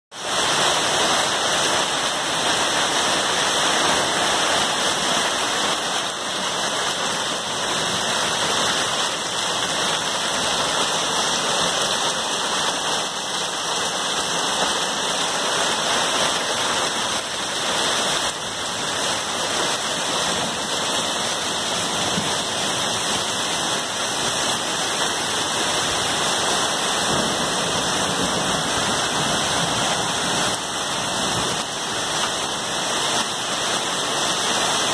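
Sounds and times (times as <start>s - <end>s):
hail and rain on a wooden deck: 0.2s - 34.9s.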